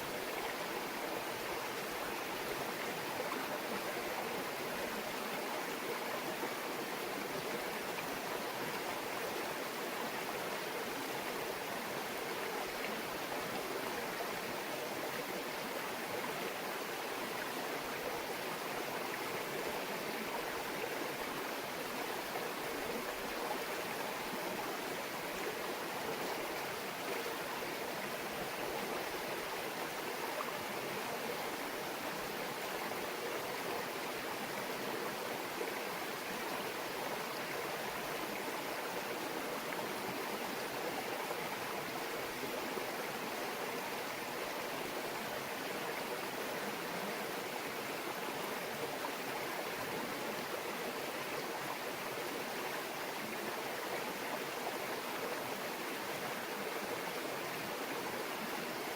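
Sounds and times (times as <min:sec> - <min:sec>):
stream babbling over rocks: 0:00.0 - 0:58.9.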